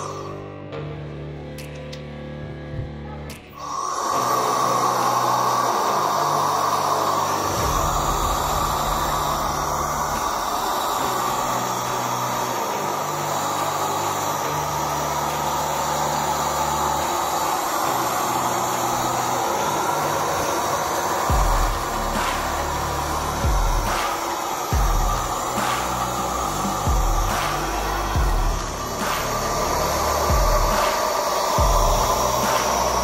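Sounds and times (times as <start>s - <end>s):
duct fan rushing air with whine: 3.7s - 33.0s.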